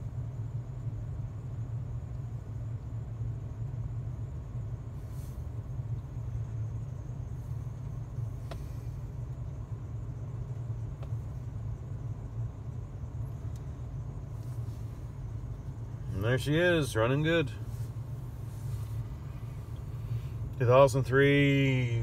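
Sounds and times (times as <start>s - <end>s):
engine idling heard from cab: 0.0s - 22.0s.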